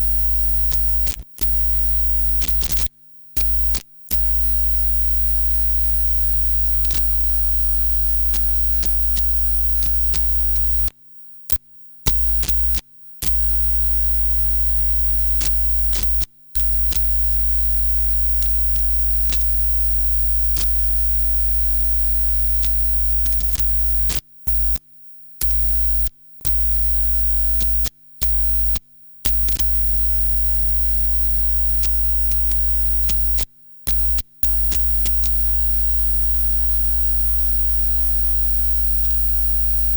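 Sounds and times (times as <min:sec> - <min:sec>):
crackles: 0:00.0 - 0:39.9
mains hum and buzz: 0:00.0 - 0:39.9.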